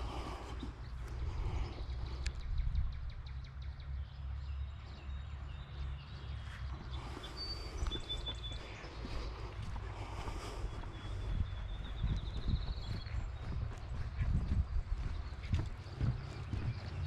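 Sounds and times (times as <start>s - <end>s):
low rumble on microphone: 0.0s - 17.0s.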